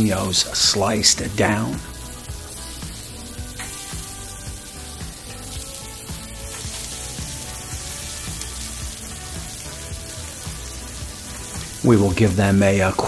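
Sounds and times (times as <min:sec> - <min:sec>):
food sizzling on a griddle: 0:00.0 - 0:13.0
soft background music: 0:00.0 - 0:13.0.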